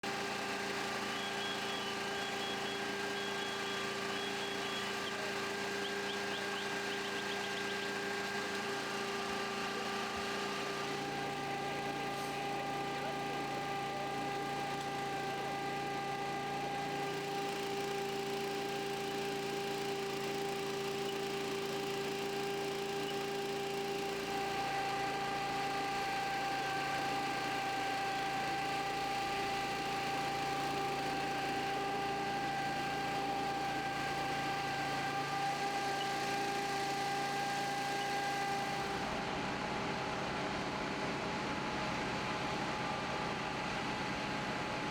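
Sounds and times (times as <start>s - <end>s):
steady mechanical hum: 0.0s - 44.9s.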